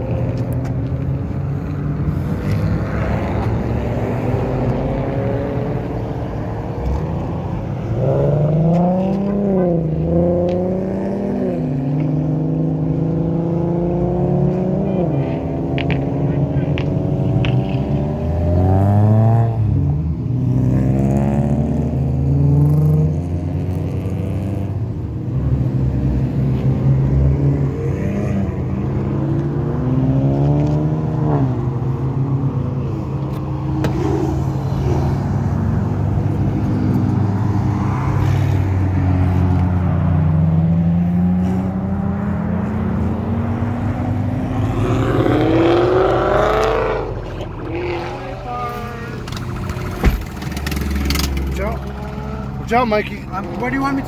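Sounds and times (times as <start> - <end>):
cars revving and accelerating: 0.0 - 54.0.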